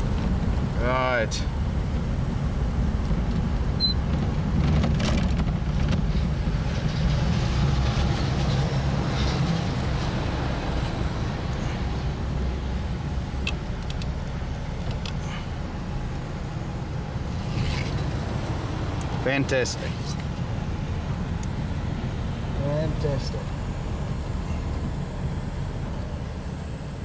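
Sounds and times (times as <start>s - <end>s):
quiet car engine: 0.0s - 27.0s
road noise rumble: 0.0s - 27.0s.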